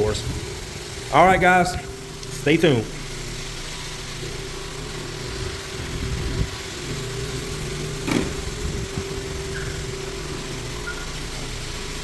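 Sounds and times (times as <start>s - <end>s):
floor sanding machine humming: 0.0s - 12.0s.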